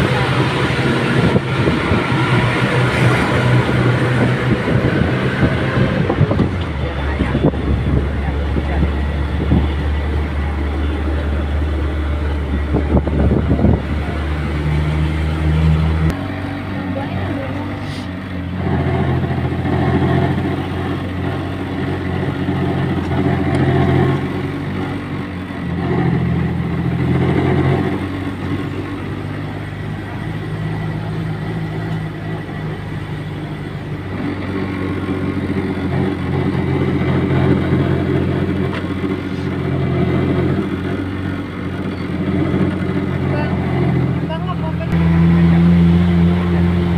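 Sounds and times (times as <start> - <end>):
vehicle engine revving: 0.0 - 46.9.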